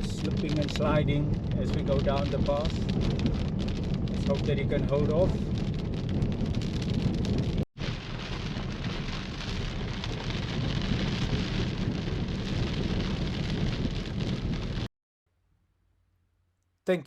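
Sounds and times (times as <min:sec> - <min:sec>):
deep low rumble: 0:00.0 - 0:14.9
heavy rain pouring: 0:00.0 - 0:14.9.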